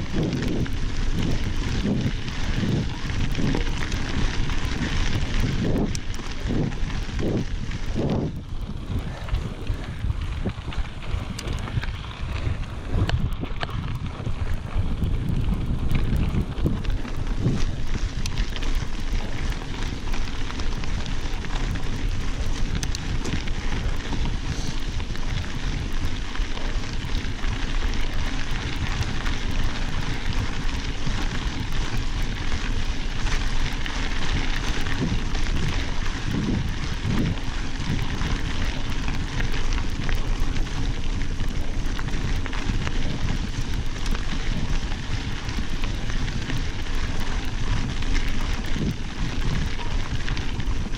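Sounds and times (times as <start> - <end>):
bike tyres crunching on gravel: 0.0 - 50.9
wind rumble on microphone: 0.0 - 50.9.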